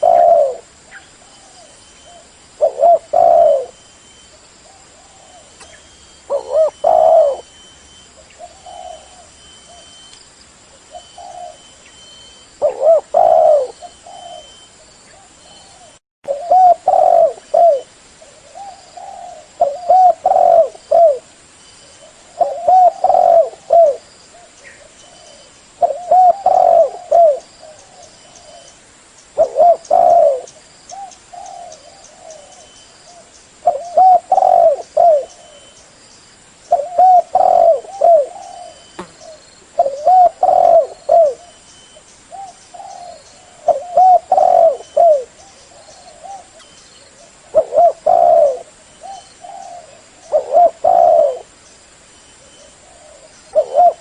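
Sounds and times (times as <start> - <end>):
dove cooing: 0.0 - 10.1, 10.8 - 21.3, 22.0 - 28.8, 29.4 - 35.8, 36.7 - 41.6, 42.3 - 51.6, 52.4 - 54.0.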